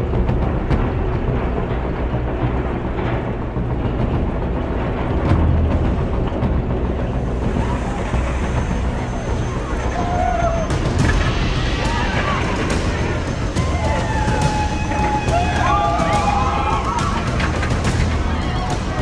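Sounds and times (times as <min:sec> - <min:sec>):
roller coaster rumbling on track: 0:00.0 - 0:19.0
knocks of roller coaster: 0:00.1 - 0:09.0, 0:09.9 - 0:19.0.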